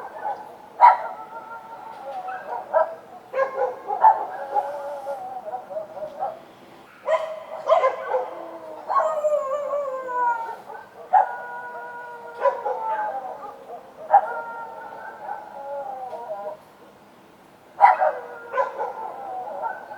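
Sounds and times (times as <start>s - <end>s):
dogs barking and howling: 0.0s - 6.4s, 7.0s - 16.7s, 17.8s - 19.9s.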